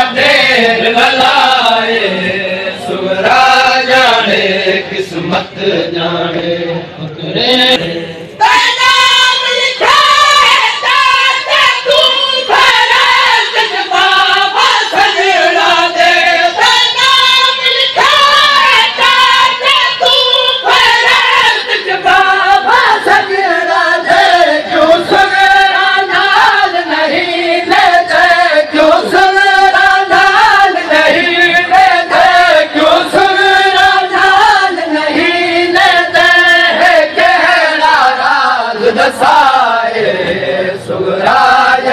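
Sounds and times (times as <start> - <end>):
many voices chanting a lament: 0.0 - 41.9.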